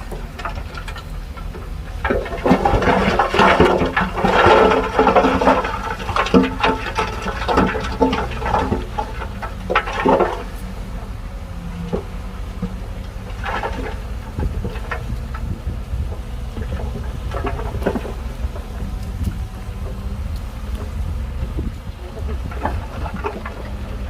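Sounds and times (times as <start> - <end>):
diesel engine running: 0.0 - 24.0
soil pouring from truck bed: 0.0 - 24.0.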